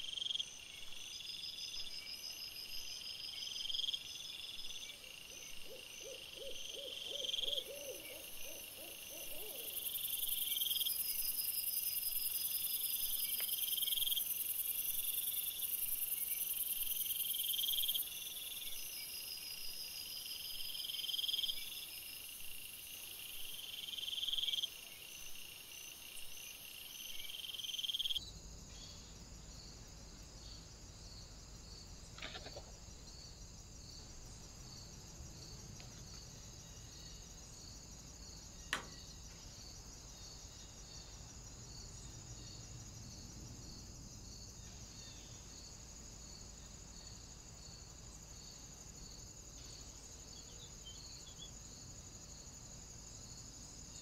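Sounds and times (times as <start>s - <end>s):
crickets chirping: 0.0s - 54.0s
steady high insect hum: 0.0s - 54.0s.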